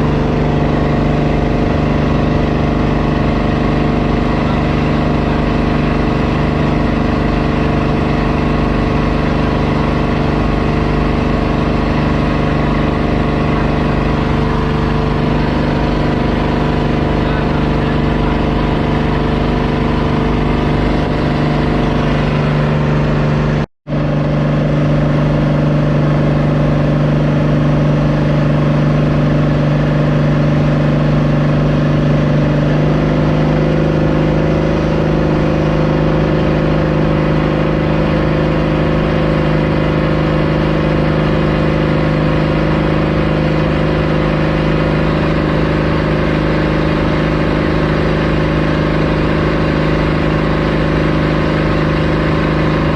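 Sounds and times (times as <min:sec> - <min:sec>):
motorboat engine running: 0:00.0 - 0:52.9.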